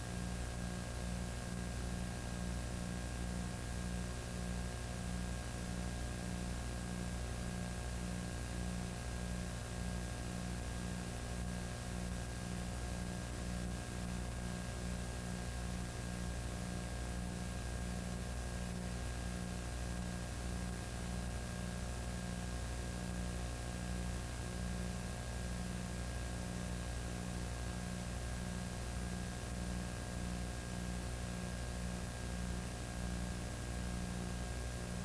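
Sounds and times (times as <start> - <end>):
electrical hum and hiss: 0.0 - 35.0.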